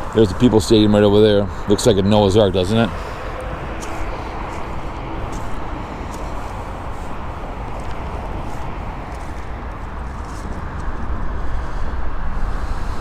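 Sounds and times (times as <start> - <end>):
freeway traffic rush: 0.0 - 13.0.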